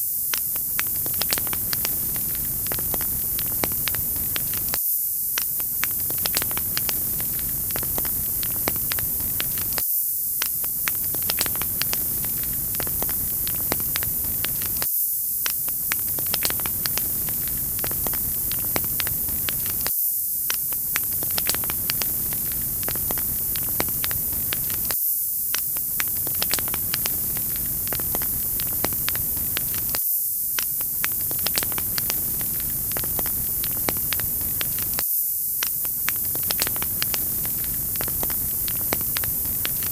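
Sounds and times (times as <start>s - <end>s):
wood fire crackling: 0.4s - 4.8s, 5.6s - 9.8s, 10.6s - 14.8s, 15.5s - 19.9s, 20.5s - 25.0s, 25.6s - 30.0s, 30.6s - 35.0s, 35.7s - 39.9s.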